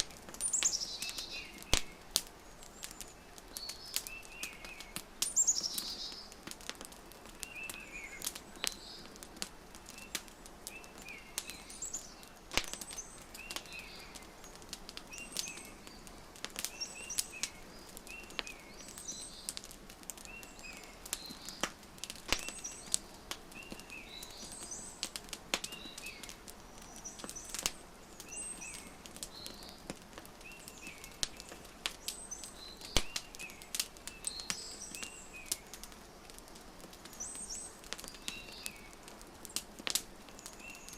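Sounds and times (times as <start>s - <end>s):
small birds chirping: 0.0s - 40.9s
wood fire crackling: 0.0s - 40.9s.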